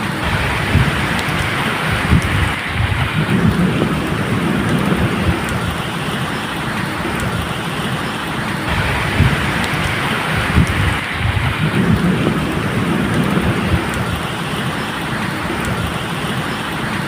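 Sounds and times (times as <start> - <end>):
distant thunder rumble: 0.0 - 17.0
rain falling steadily: 0.0 - 17.0.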